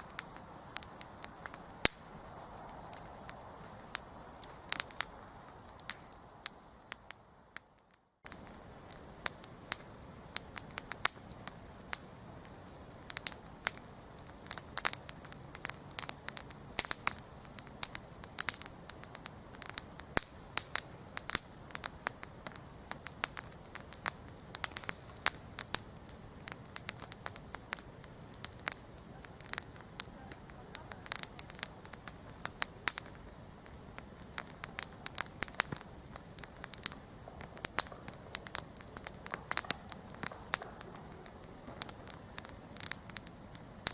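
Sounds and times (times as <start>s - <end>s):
campfire crackling and popping: 0.0s - 43.9s
low hiss of burning: 0.0s - 43.9s.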